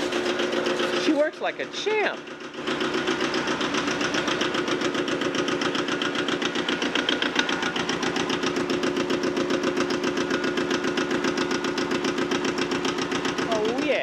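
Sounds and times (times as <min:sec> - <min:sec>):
tractor diesel engine chugging: 0:00.0 - 0:14.0.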